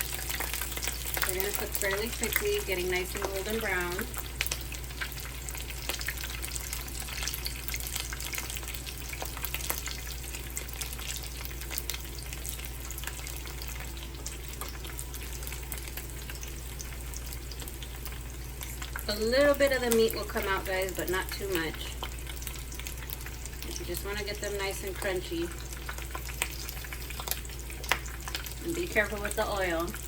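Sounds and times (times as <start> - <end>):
tacos sizzling in hot oil: 0.0 - 30.0.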